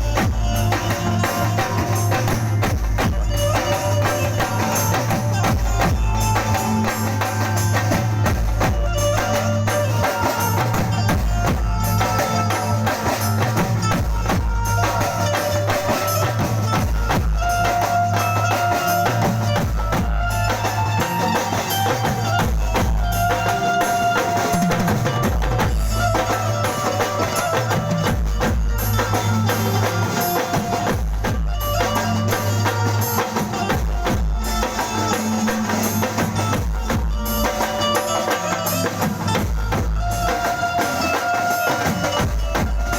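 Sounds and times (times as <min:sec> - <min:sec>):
live music over loudspeakers: 0:00.0 - 0:42.9.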